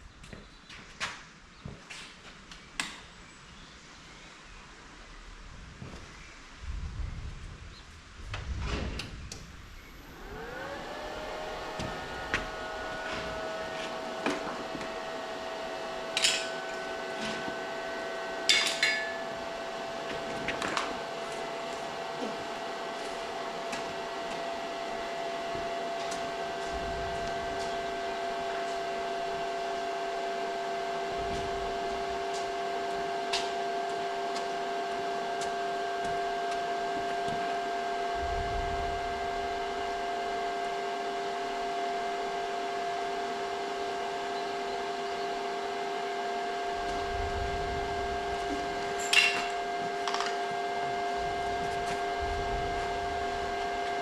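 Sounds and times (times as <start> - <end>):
machine whining: 8.3 - 54.0.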